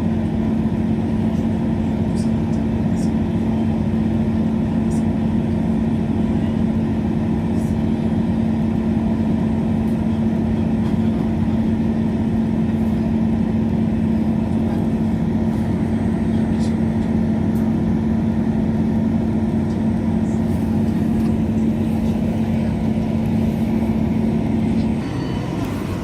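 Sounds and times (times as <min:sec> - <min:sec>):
train engine drone: 0:00.0 - 0:26.0.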